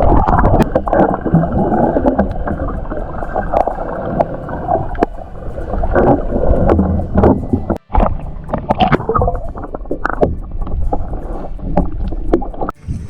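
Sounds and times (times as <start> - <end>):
muffled underwater gurgling: 0.0 - 13.0.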